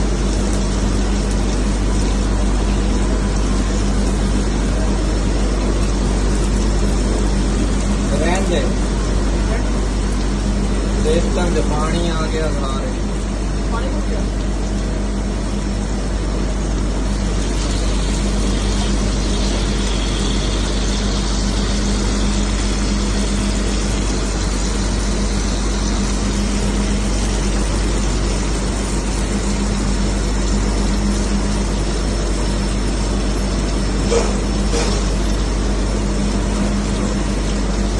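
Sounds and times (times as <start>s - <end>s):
machinery hum: 0.0s - 37.9s.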